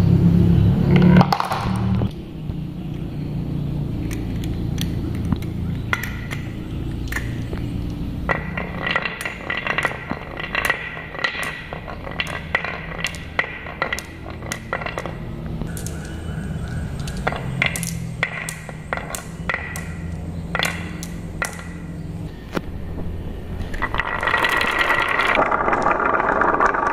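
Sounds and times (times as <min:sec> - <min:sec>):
marbles clinking: 0:00.9 - 0:02.2, 0:04.0 - 0:22.2, 0:23.6 - 0:26.9
marbles rolling on wooden track: 0:00.9 - 0:02.2, 0:04.1 - 0:22.2, 0:23.6 - 0:26.9.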